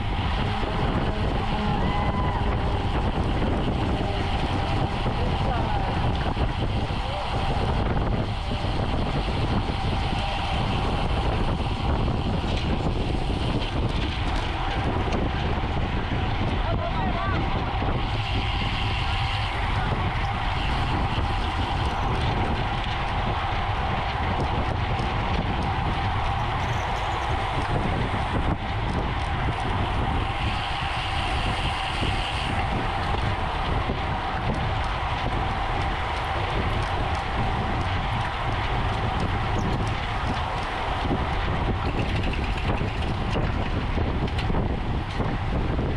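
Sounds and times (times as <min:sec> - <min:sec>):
wind and road noise: 0:00.0 - 0:45.9.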